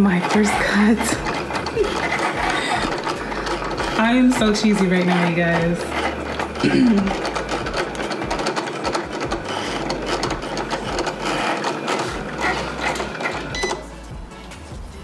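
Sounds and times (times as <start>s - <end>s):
cutting machine motors whirring: 0.0s - 13.9s.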